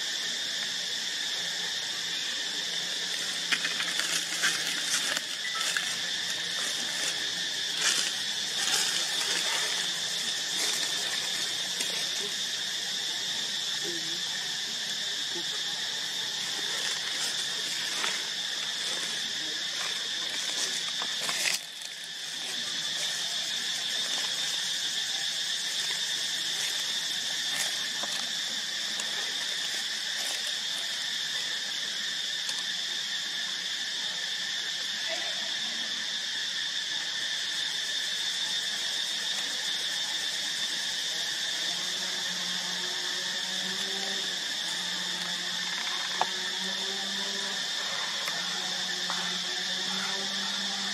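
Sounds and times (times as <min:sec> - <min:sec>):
insect chorus buzzing: 0:00.0 - 0:50.9.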